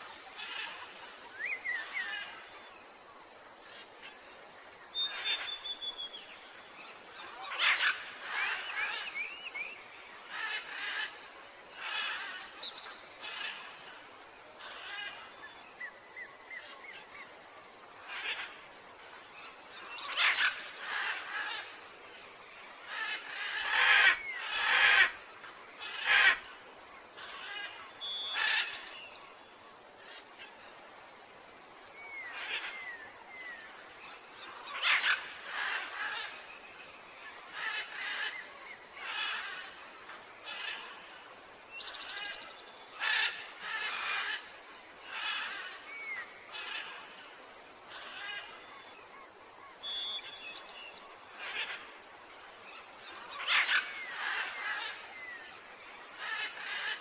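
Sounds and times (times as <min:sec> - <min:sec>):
songbirds chirping and whistling: 0:00.0 - 0:02.5, 0:03.6 - 0:17.4, 0:18.0 - 0:30.5, 0:31.8 - 0:51.8, 0:52.5 - 0:57.0.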